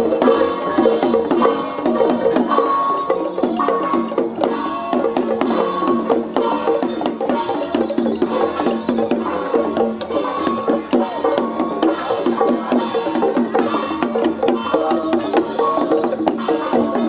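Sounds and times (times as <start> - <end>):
busy melody over percussion: 0.0 - 17.0.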